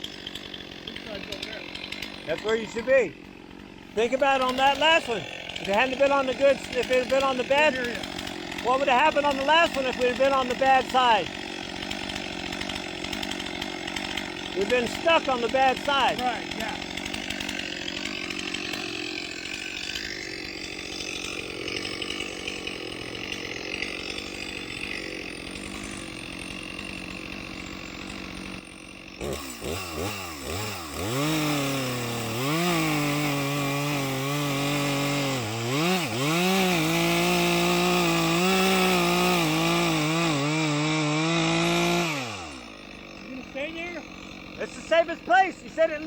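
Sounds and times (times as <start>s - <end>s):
chainsaw engine revving: 0.0s - 46.0s.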